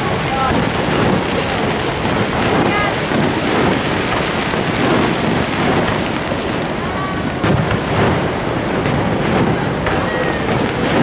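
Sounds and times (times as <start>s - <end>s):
crowd voices: 0.0s - 11.0s
fireworks bursting: 0.0s - 11.0s
steady rushing noise: 0.0s - 11.0s.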